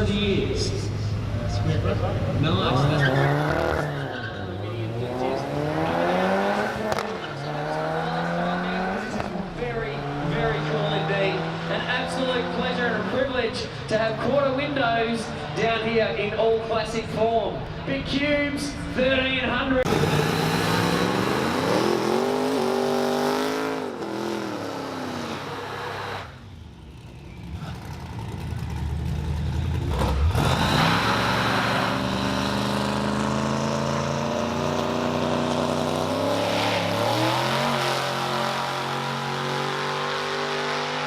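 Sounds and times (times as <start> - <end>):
racing car engines revving: 0.0 - 18.9, 19.8 - 41.0.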